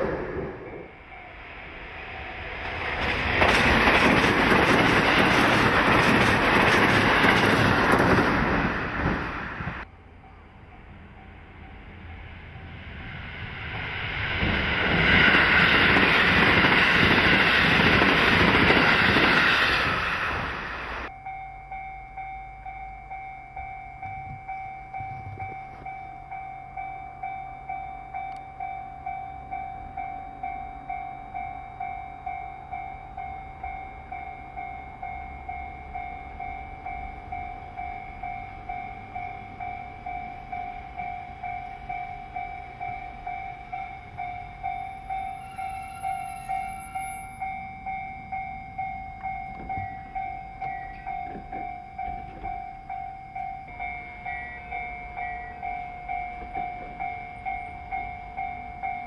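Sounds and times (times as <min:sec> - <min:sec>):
level-crossing alarm ringing: 0:00.0 - 0:14.0, 0:14.9 - 0:59.0
electric train rumble: 0:00.0 - 0:59.0.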